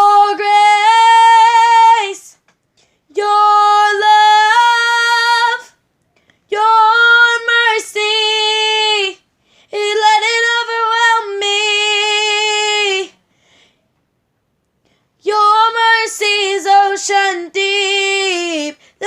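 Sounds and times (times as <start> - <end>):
woman singing unaccompanied: 0.0 - 2.4, 3.1 - 5.8, 6.5 - 13.2, 15.2 - 19.0.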